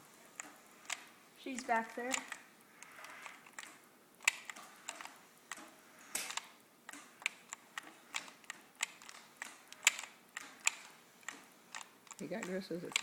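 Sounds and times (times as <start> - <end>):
light sharp clicks and ticks: 0.4 - 13.0.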